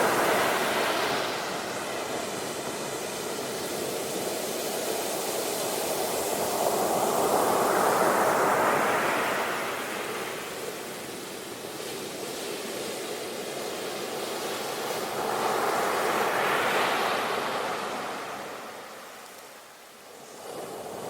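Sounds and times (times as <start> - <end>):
sea waves crashing on shore: 0.0 - 21.0.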